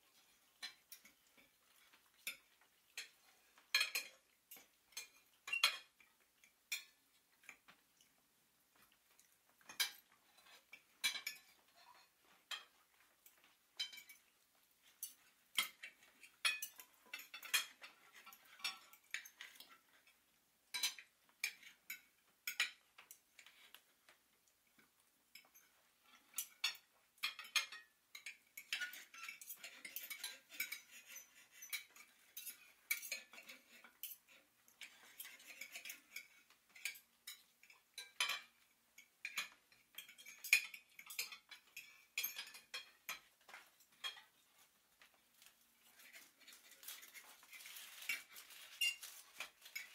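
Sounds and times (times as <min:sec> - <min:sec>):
dishes and cutlery clinking: 0:00.1 - 0:49.9.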